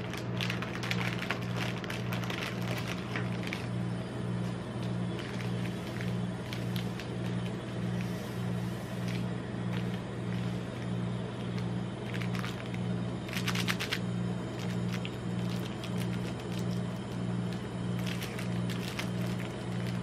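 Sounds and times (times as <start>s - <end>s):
plastic wrappers crinkling: 0.0s - 3.8s, 4.8s - 20.0s
low pulsing hum: 0.0s - 20.0s.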